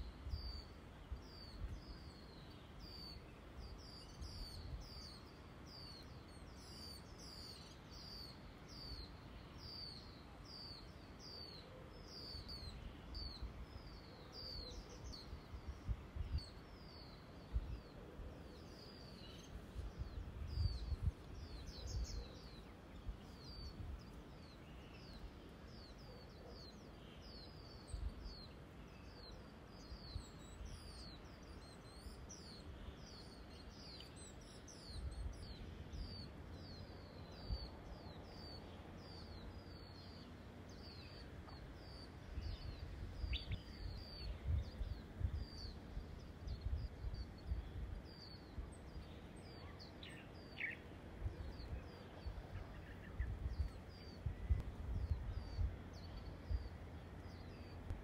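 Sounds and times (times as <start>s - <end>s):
wind rumbling on microphone: 0.0s - 9.0s, 12.2s - 25.9s, 27.4s - 58.0s
birds chirping: 0.0s - 58.0s.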